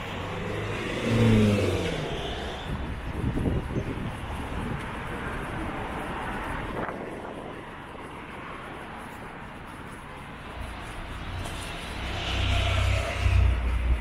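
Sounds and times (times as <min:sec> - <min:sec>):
city street traffic: 0:00.0 - 0:14.0
vehicle passing close: 0:00.0 - 0:14.0.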